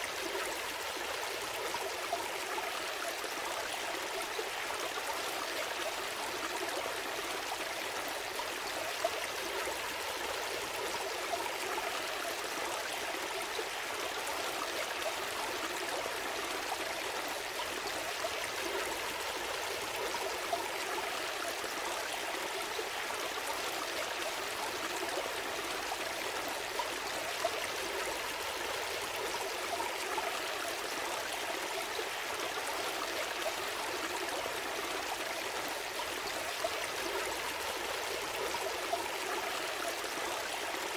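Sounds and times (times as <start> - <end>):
small stream trickling: 0.0 - 40.9.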